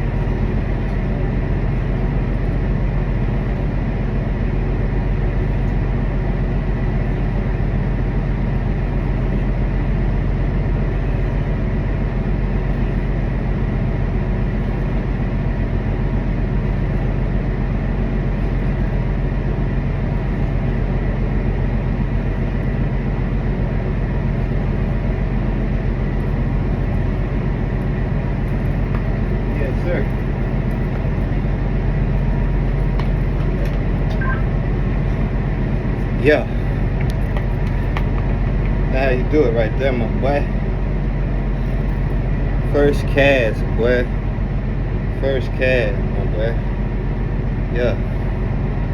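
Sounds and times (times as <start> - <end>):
machinery drone: 0.0 - 48.9.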